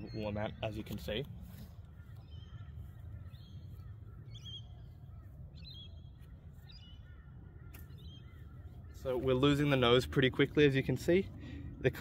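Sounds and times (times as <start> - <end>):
birds warbling calls: 0.0 - 12.0.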